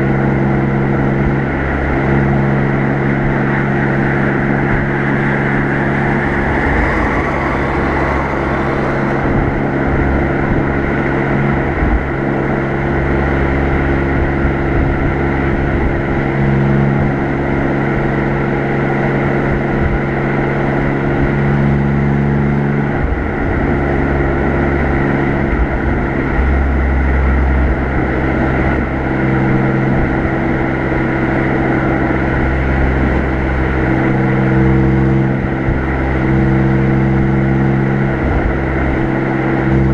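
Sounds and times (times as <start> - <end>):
car exhaust cruising: 0.0 - 39.9
road and wind noise: 0.0 - 39.9.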